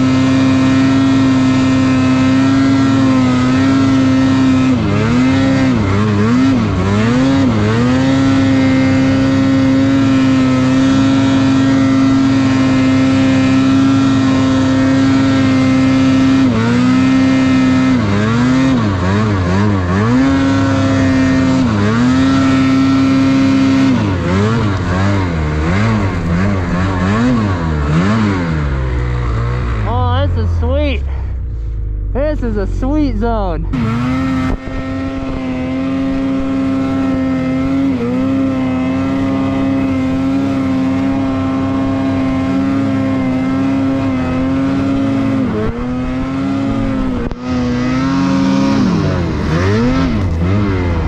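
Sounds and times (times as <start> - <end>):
snowmobile engine revving: 0.0 - 51.0.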